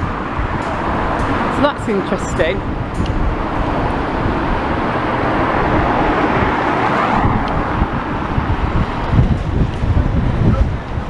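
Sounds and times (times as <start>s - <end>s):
car passing: 0.0s - 11.0s
wind buffeting microphone: 0.0s - 11.0s.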